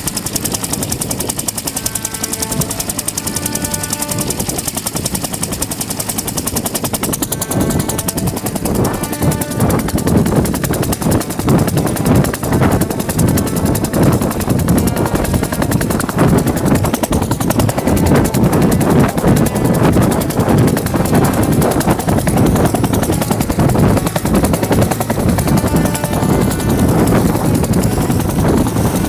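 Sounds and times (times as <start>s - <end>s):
helicopter engine noise: 0.0s - 29.0s
helicopter rotor chop: 0.0s - 29.0s.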